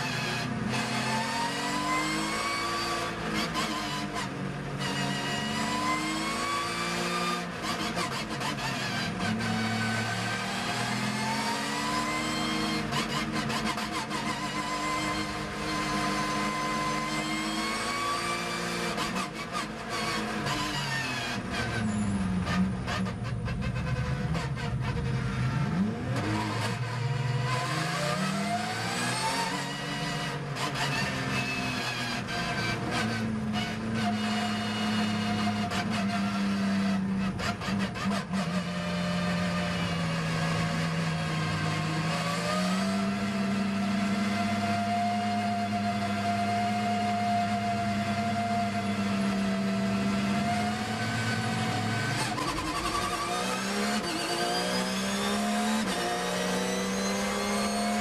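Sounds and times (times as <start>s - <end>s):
race car engine revving: 4.8s - 58.0s.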